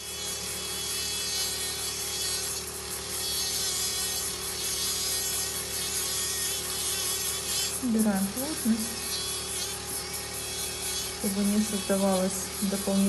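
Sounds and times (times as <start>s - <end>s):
nail drill grinding toenail: 0.0s - 13.0s.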